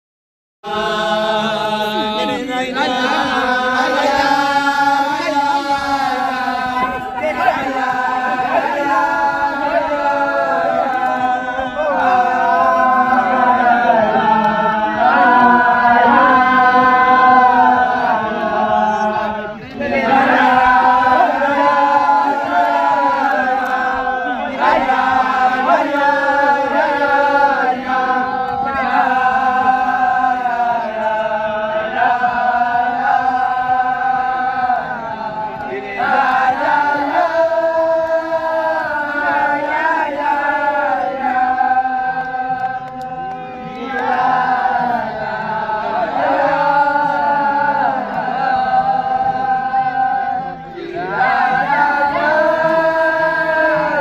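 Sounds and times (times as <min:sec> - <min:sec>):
men singing in unison: 0:00.6 - 0:54.0.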